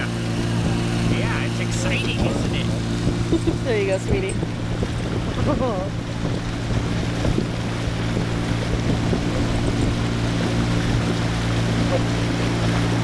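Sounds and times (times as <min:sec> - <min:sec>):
boat motor humming: 0:00.0 - 0:13.0
water rushing past hull: 0:00.0 - 0:13.0
wind on microphone: 0:00.0 - 0:13.0.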